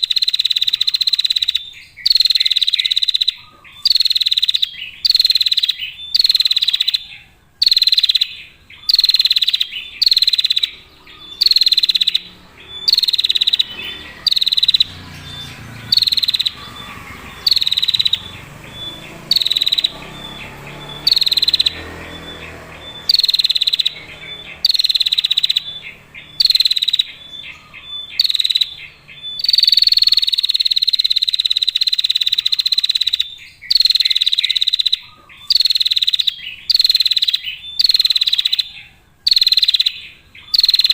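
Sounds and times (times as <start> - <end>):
bird buzzy trilling calls: 0.0 - 40.9.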